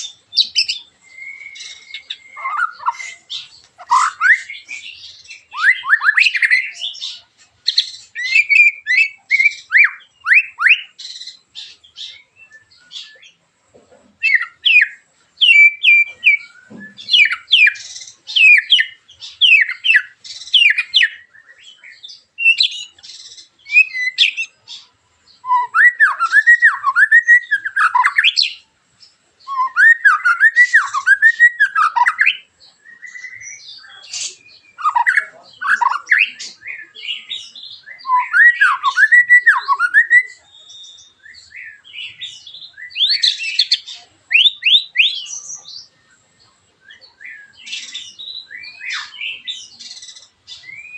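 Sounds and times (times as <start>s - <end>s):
bird singing harsh sweeping notes: 0.0s - 13.4s, 14.2s - 50.9s.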